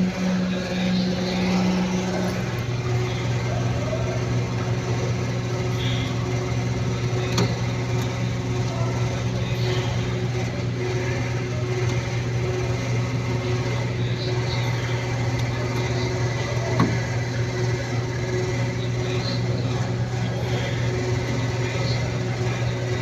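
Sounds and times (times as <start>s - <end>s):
higher hum: 0.0s - 23.0s
motor humming: 0.0s - 23.0s.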